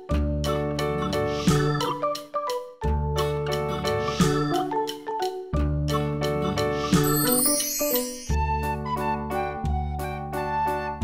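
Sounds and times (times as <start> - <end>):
light tune with bass: 0.0 - 11.0.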